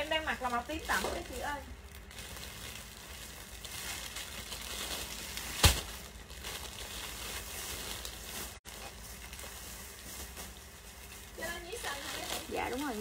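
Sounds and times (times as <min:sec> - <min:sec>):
room background noise: 0:00.0 - 0:13.0.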